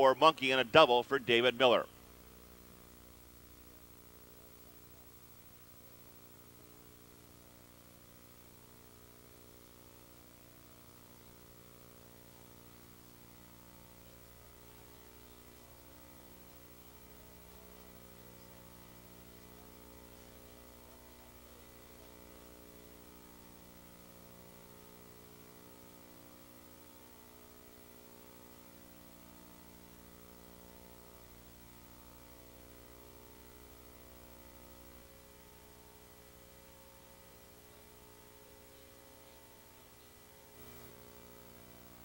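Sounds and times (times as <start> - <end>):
faint electrical hum: 0.0 - 42.0.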